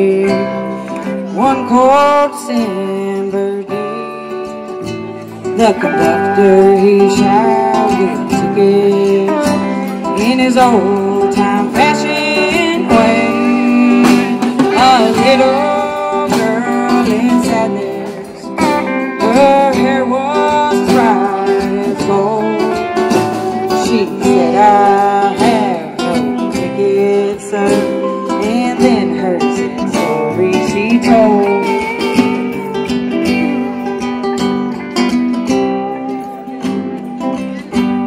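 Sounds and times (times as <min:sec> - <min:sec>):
country band playing: 0:00.0 - 0:38.0
woman singing: 0:00.0 - 0:38.0.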